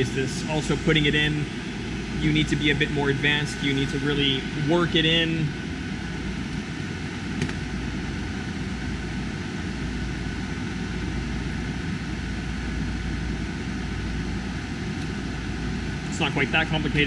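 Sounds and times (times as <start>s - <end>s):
air conditioner blower whirring: 0.0s - 17.0s.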